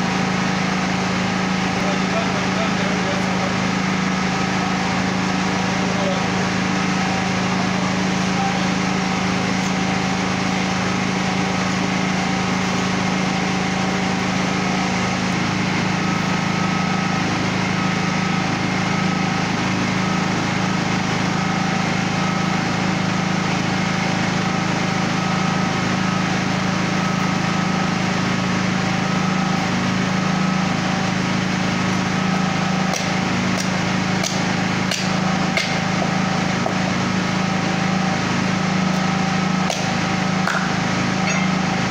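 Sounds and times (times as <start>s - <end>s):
steady mechanical hum: 0.0s - 41.9s.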